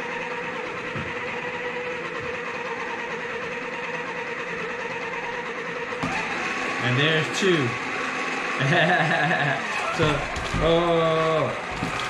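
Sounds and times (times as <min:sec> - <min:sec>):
small electric motor whine: 0:00.0 - 0:12.0.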